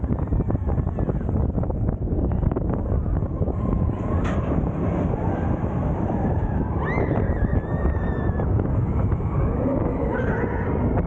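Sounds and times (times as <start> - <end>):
vehicle rumble: 0.0 - 11.0
wind buffeting microphone: 0.0 - 11.0.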